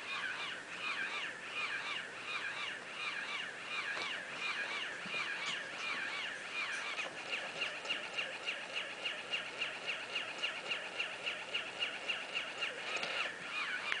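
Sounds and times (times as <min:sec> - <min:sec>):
toy electronic chirps: 0:00.1 - 0:14.0.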